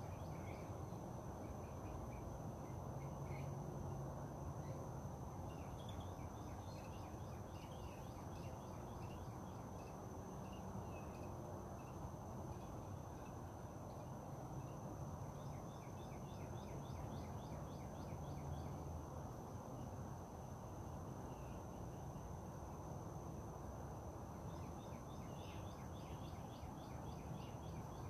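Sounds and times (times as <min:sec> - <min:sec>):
high-pitched insect trill: 0:00.0 - 0:28.0.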